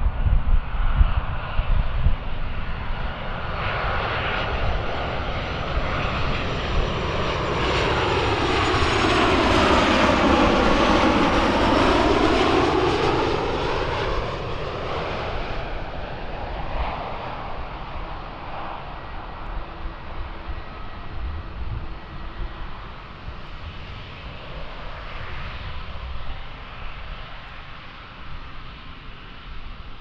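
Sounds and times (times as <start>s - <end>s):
airliner engines passing: 0.0s - 30.0s.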